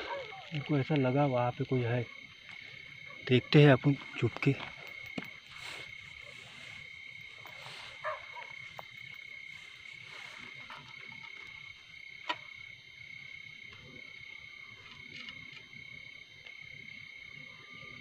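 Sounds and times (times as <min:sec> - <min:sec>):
night chorus of calling animals: 0:00.0 - 0:18.0.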